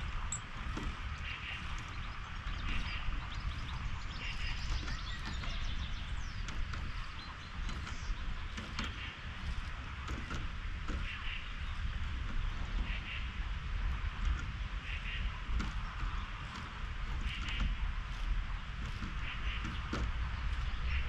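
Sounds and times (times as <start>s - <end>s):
songbirds chirping: 0.0s - 21.0s
steady low rumble: 0.0s - 21.0s.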